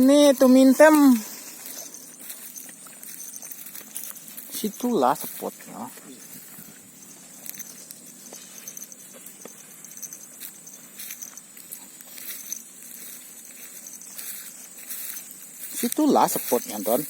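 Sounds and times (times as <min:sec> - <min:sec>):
insects chirring: 0:00.0 - 0:17.0
insects droning: 0:00.0 - 0:17.0.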